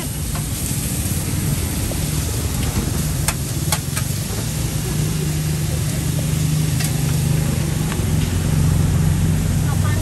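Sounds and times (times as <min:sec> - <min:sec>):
engine humming: 0:00.0 - 0:10.0
street background noise: 0:00.0 - 0:10.0.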